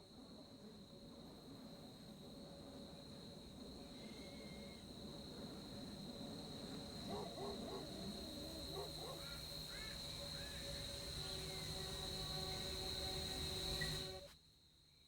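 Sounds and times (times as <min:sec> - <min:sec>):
crickets trilling: 0:00.1 - 0:14.3.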